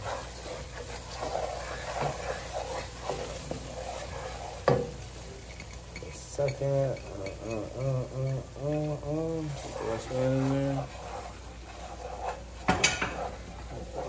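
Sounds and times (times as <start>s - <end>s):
onions sizzling: 0.0s - 14.0s
wooden spoon scraping a pot: 0.0s - 14.0s.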